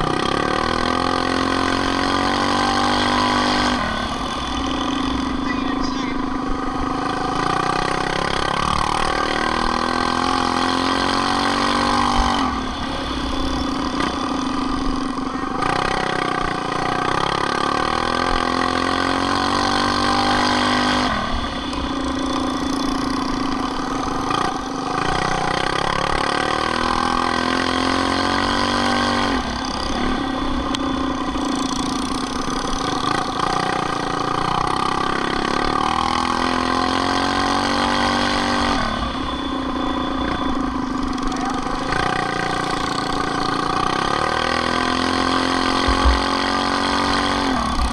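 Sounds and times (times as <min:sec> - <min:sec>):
minibike engine revving: 0:00.0 - 0:47.9.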